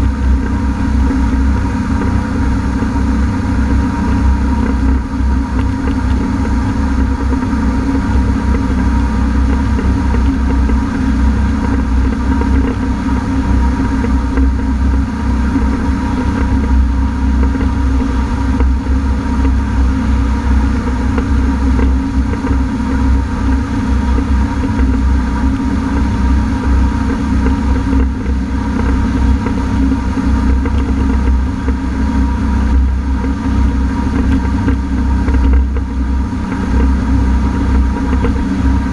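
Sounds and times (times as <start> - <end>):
watercraft engine running: 0.0 - 38.9.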